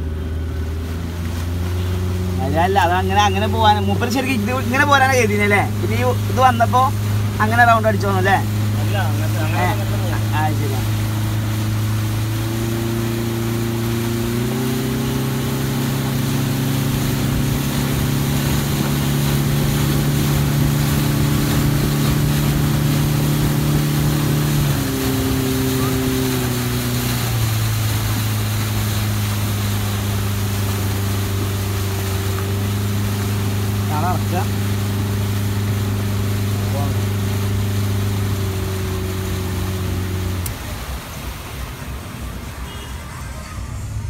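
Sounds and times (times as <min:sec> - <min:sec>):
speedboat engine running: 0:00.0 - 0:44.0
steady rushing noise: 0:00.0 - 0:44.0.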